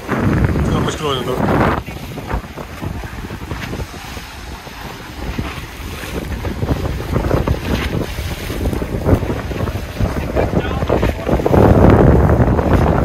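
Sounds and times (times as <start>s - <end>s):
waves splashing against seawall: 0.0s - 13.0s
wind buffeting microphone: 0.0s - 13.0s.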